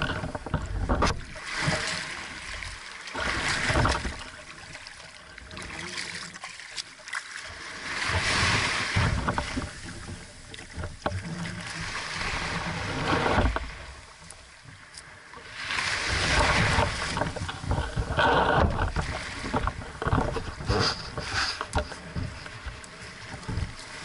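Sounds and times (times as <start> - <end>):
knocks and rattles from boat: 0.0 - 24.0
small waves washing: 0.0 - 24.0.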